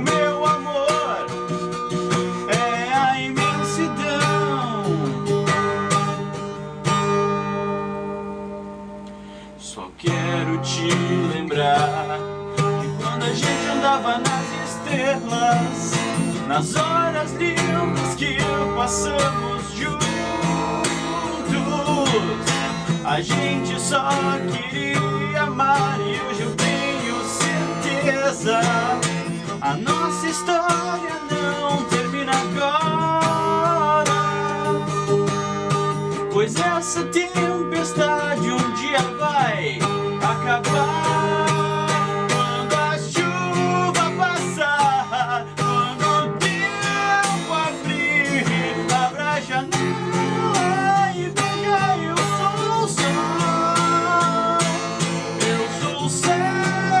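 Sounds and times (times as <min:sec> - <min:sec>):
person singing: 0:00.0 - 0:06.4, 0:09.6 - 0:35.3, 0:36.3 - 0:57.0
acoustic guitar strumming: 0:00.0 - 0:57.0.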